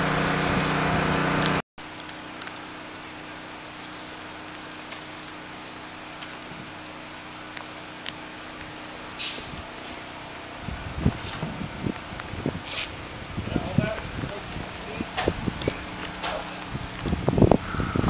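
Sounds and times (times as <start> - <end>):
engine hum: 0.0 - 18.0
steady rain falling: 0.0 - 18.0.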